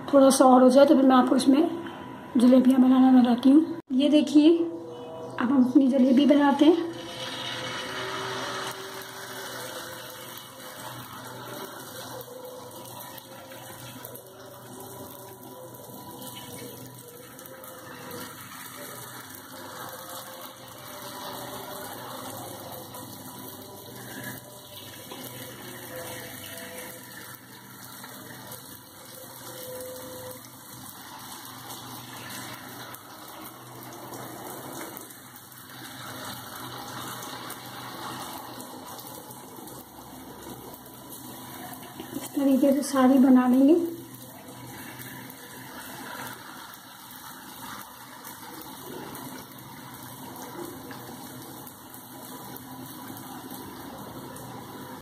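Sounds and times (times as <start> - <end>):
batter sizzling in hot oil: 5.4 - 55.0.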